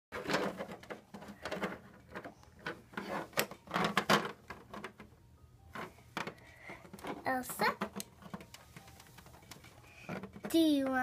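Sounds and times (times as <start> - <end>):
handling knocks and rustling: 0.2 - 11.0.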